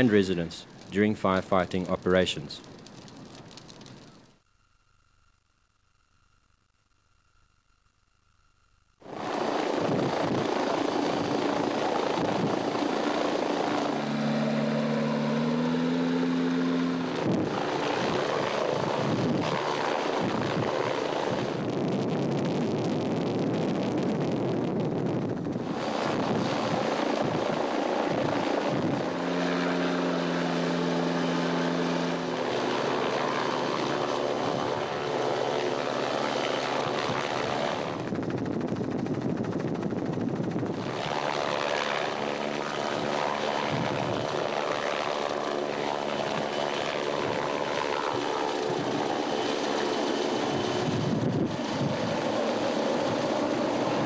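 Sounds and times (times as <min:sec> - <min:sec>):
helicopter hovering: 0:00.0 - 0:02.6, 0:09.0 - 0:54.0.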